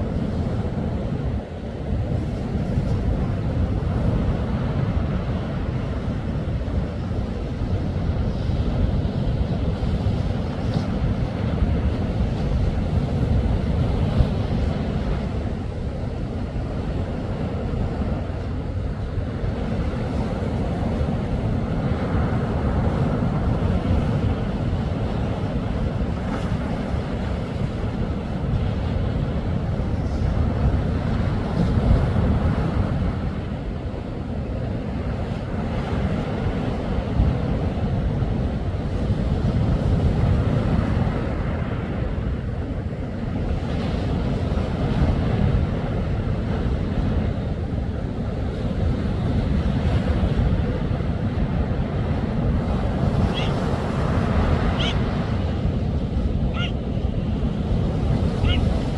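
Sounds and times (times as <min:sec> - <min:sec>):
sea waves washing ashore: 0:00.0 - 0:58.9
wind buffeting microphone: 0:00.0 - 0:58.9.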